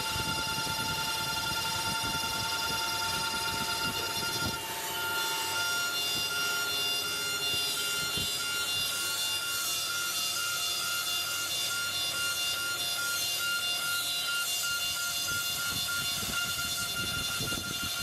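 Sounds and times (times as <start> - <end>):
cutter scratching metal: 0.0 - 18.0
high spindle tones: 0.0 - 18.0.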